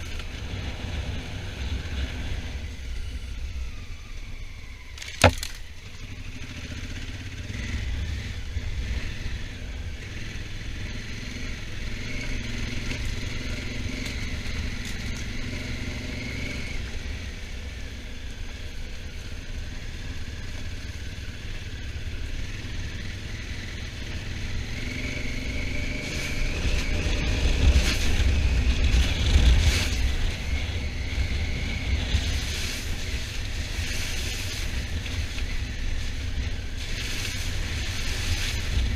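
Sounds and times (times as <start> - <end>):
motorcycle engine running: 5.0 - 38.9.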